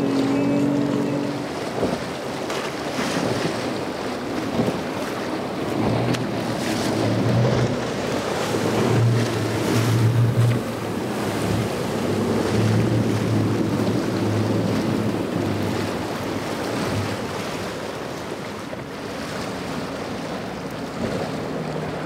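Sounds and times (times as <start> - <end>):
boat hull slapping through water: 0.0 - 22.0
outboard engines droning: 0.0 - 22.0.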